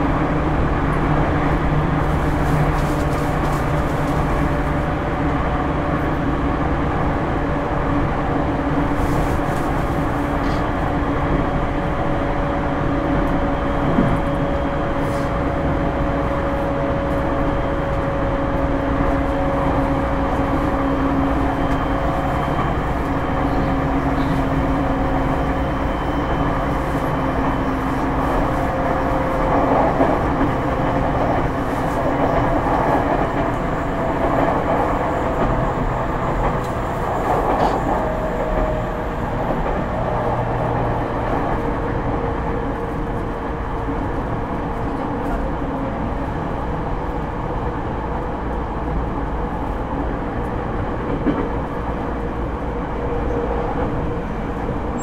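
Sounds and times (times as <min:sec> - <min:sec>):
rumble of train wheels on rail: 0:00.0 - 0:55.0.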